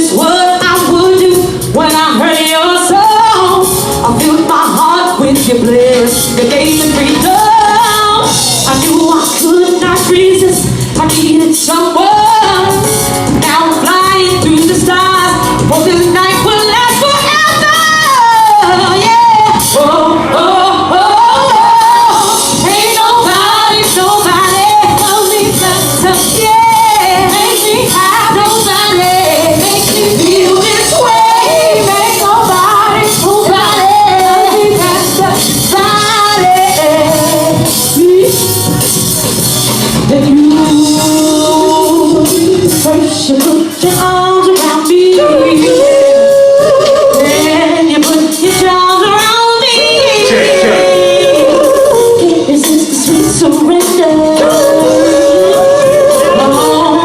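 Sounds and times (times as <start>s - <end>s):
woman singing: 0.0s - 38.8s, 40.0s - 57.0s
live band playing: 0.0s - 57.0s.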